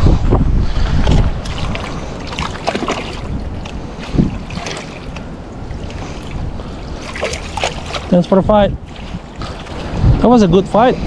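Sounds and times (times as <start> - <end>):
rushing wind and water: 0.0 - 11.0
wind buffeting microphone: 0.0 - 11.0.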